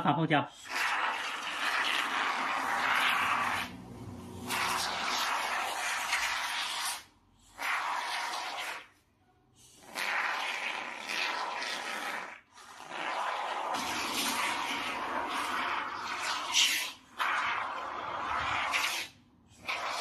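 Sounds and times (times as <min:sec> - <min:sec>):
aerosol foam spraying hiss: 0:00.6 - 0:03.7, 0:04.5 - 0:08.9, 0:09.8 - 0:20.0.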